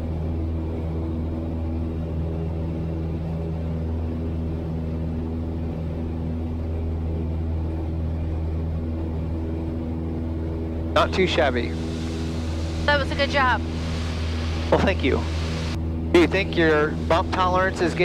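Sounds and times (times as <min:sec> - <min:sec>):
aircraft engine and propeller droning: 0:00.0 - 0:18.0.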